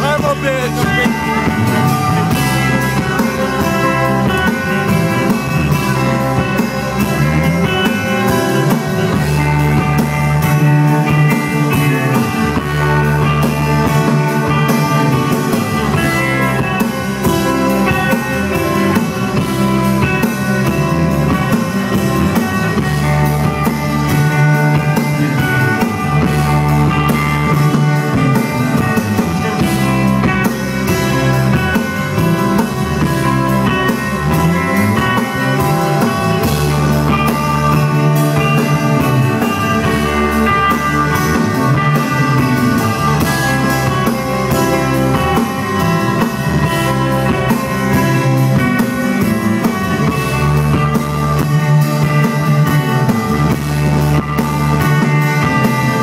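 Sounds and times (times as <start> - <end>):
bass line: 0.0 - 56.0
distorted electric guitars: 0.0 - 56.0
drum kit: 0.0 - 56.0.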